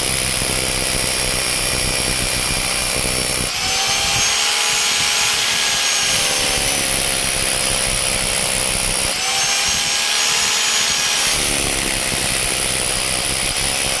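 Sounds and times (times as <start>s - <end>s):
rotary hammer drill motor running: 0.0s - 14.0s.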